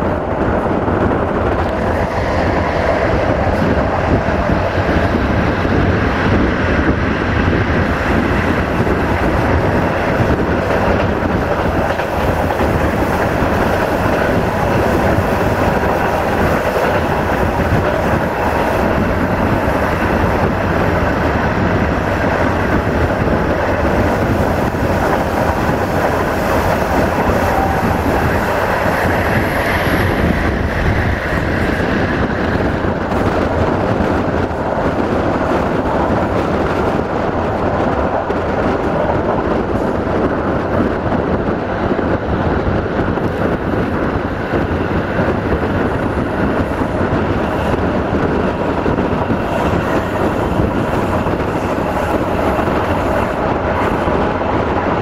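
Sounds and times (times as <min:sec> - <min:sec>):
rushing air: 0:00.0 - 0:55.0
train wheels rumbling on rails: 0:00.0 - 0:55.0.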